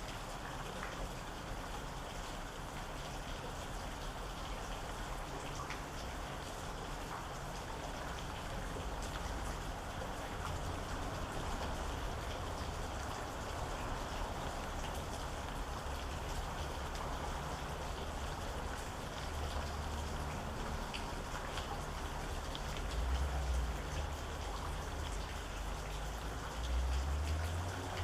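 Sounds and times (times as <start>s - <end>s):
rain drops tapping: 0.0s - 28.0s.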